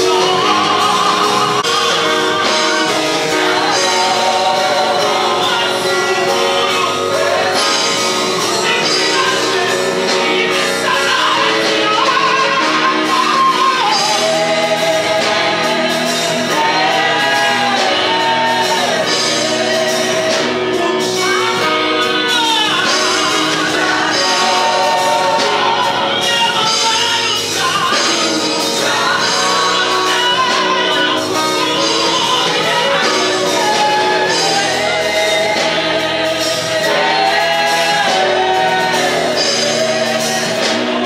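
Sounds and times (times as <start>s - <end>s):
gospel music with singing: 0.0s - 41.0s.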